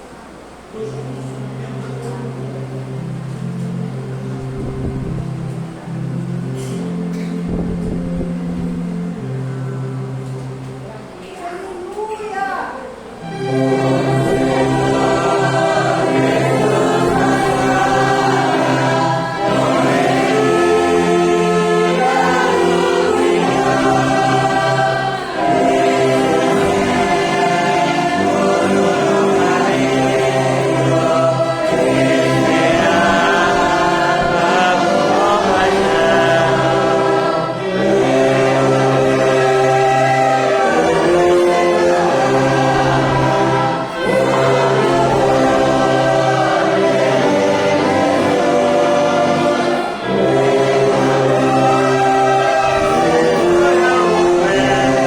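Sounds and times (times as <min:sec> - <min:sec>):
orchestra accompanying: 0:00.0 - 0:11.4, 0:13.1 - 0:55.0
congregation singing a hymn: 0:00.0 - 0:12.0, 0:12.7 - 0:55.0.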